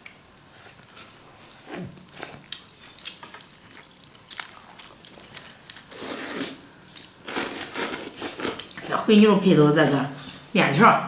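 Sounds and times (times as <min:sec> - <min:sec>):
people chewing noodles: 0:00.0 - 0:09.0.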